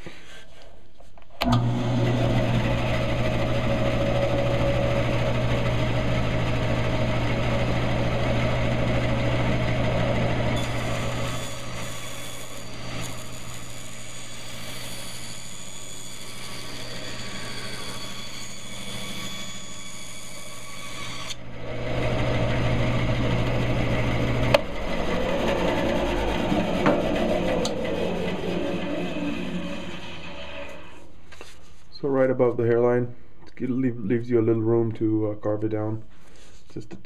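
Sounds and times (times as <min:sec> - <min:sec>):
bandsaw blade cutting wood: 0:01.4 - 0:31.1
bandsaw motor humming: 0:01.4 - 0:31.1.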